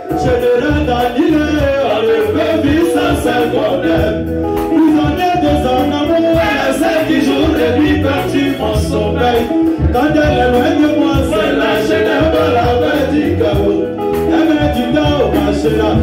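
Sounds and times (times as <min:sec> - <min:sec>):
live music with bass beat: 0:00.0 - 0:16.0
men singing into microphones: 0:00.0 - 0:16.0.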